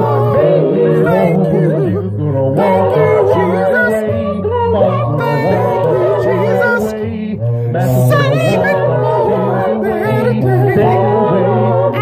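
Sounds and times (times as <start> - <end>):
man singing a cappella gospel: 0.0 - 12.0.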